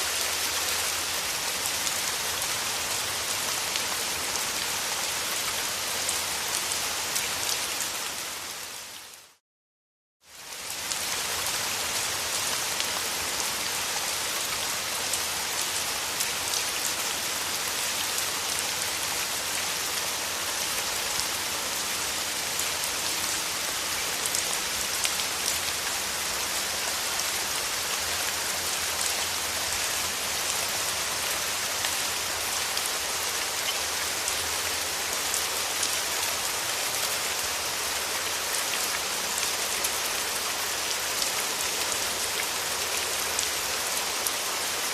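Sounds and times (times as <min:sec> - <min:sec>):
steady rain falling: 0:00.0 - 0:09.4, 0:10.2 - 0:44.9.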